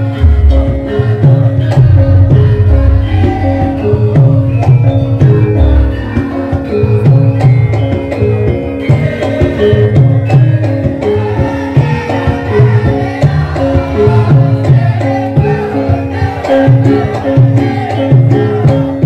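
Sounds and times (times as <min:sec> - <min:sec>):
hand drums: 0:00.0 - 0:19.0.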